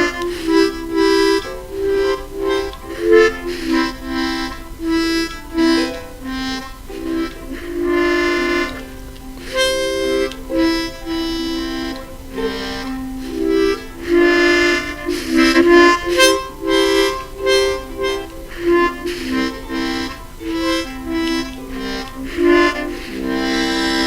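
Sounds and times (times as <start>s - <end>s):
free-reed instrument melody: 0.0s - 24.0s.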